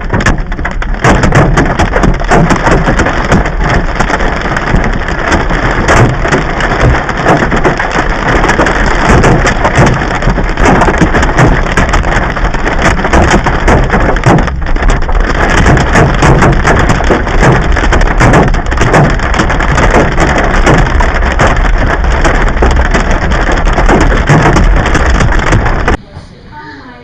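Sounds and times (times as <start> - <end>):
hail clattering on hard surfaces: 0.0 - 26.0.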